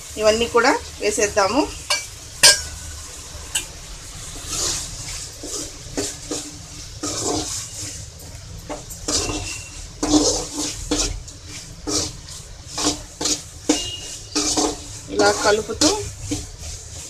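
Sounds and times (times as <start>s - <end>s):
spatula stirring wet gravy: 1.8s - 17.0s.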